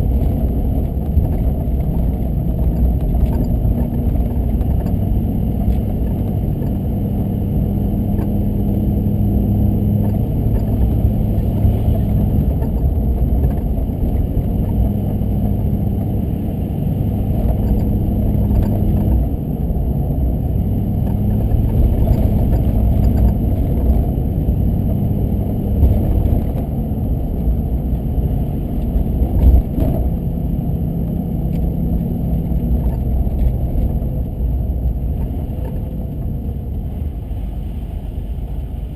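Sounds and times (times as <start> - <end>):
car engine hum: 0.0 - 38.9
road rumble: 0.0 - 38.9.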